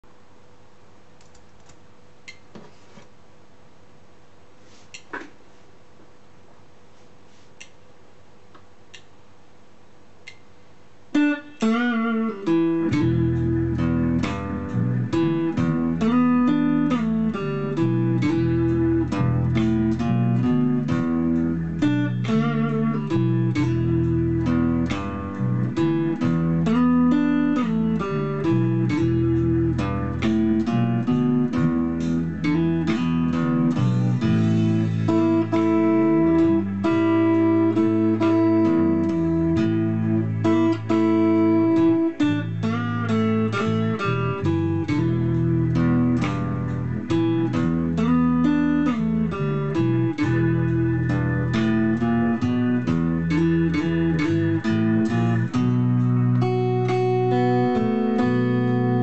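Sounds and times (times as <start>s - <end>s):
faint hum: 0.0s - 59.0s
electric guitar playing blues: 11.1s - 59.0s.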